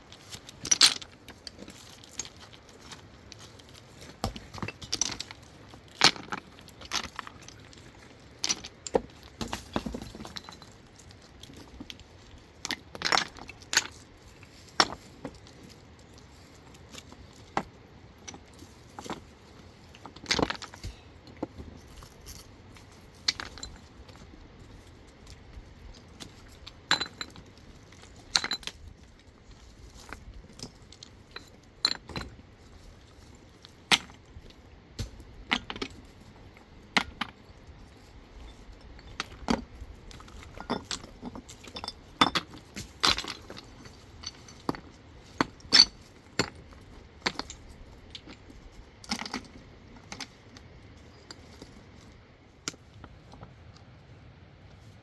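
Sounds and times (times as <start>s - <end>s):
stones clicking and knocking: 0.1s - 53.6s.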